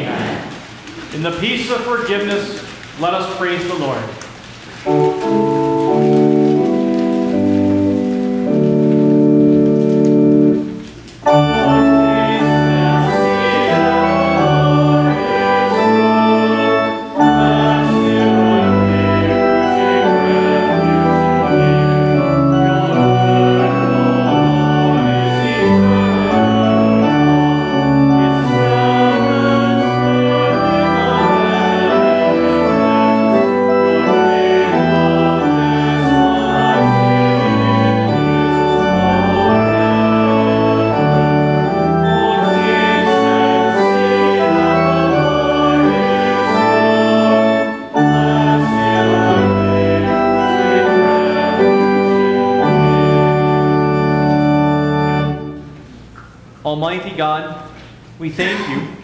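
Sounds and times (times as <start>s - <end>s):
church organ playing: 0.0s - 59.0s.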